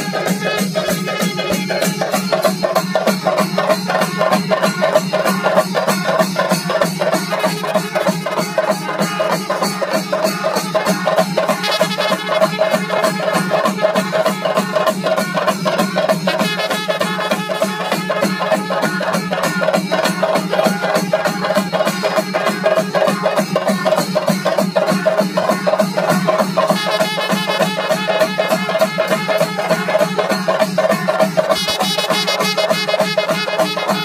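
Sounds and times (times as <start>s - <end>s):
drum ensemble beaten with sticks: 0.0s - 34.0s.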